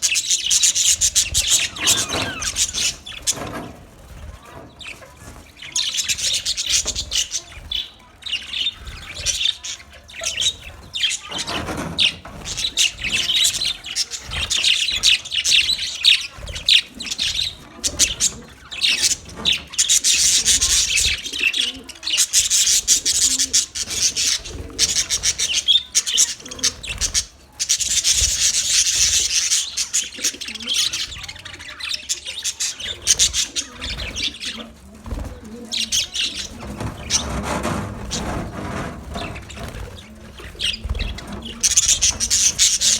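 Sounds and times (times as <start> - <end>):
budgerigars chirping and chattering: 0.0 - 42.9.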